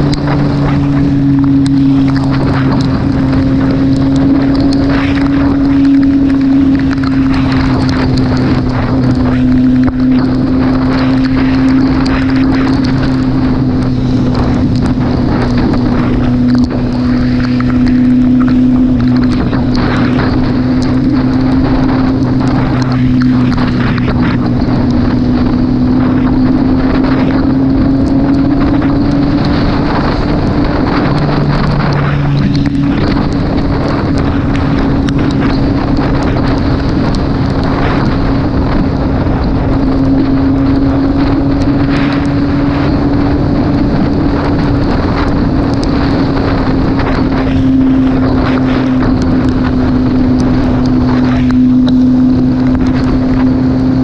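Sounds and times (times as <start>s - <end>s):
motorcycle engine cruising: 0.0s - 54.0s
wind noise on microphone: 0.0s - 54.0s.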